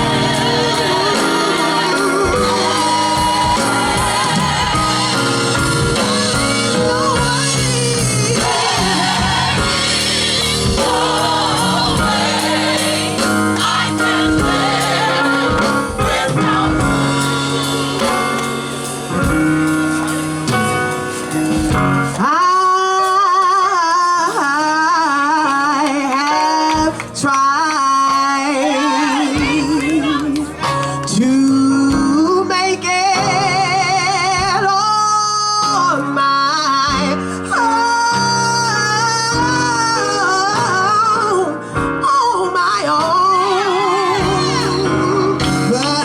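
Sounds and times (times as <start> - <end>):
backing band: 0.0 - 46.0
gospel group singing: 0.0 - 46.0.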